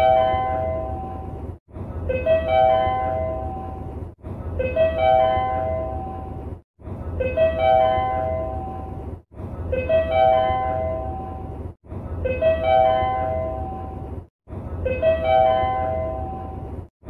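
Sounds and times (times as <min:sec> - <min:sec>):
low train rumble: 0:00.0 - 0:16.9.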